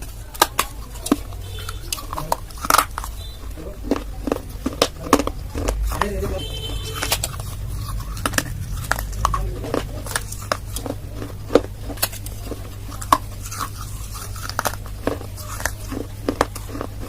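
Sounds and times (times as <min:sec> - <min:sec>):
crunching and chewing: 0:00.0 - 0:17.0
steady low hum: 0:00.0 - 0:17.0.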